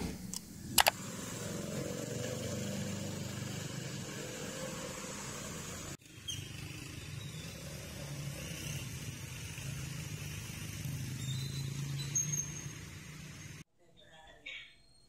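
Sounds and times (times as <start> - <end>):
street traffic noise: 0.0 - 13.6.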